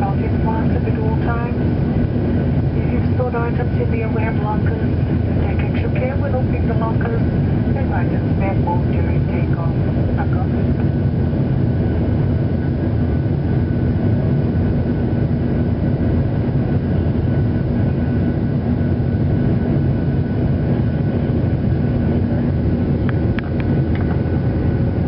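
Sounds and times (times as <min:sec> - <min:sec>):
jet engines droning: 0:00.0 - 0:25.0
steady low hum: 0:00.0 - 0:25.0.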